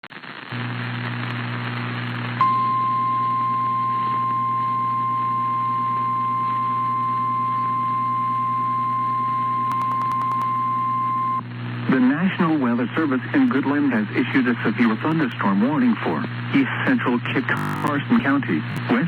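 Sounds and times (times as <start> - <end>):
radio hiss with low hum: 0.1 - 19.0.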